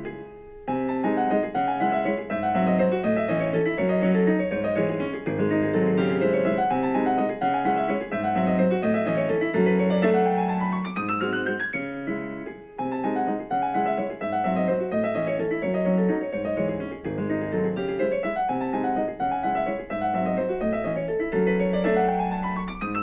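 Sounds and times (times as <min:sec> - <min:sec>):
background piano music: 0:00.0 - 0:23.0.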